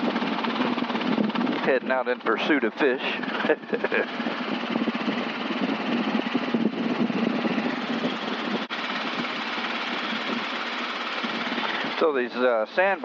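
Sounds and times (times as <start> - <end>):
helicopter engine and rotors droning: 0.0 - 13.0.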